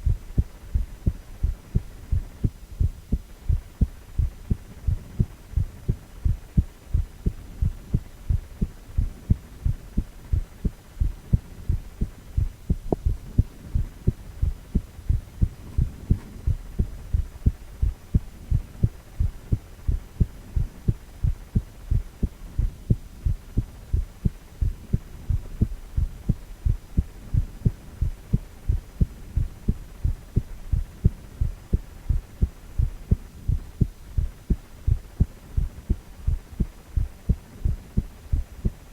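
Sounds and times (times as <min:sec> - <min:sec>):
faint low hum: 0:00.0 - 0:38.9
heartbeat thumps: 0:00.0 - 0:38.9.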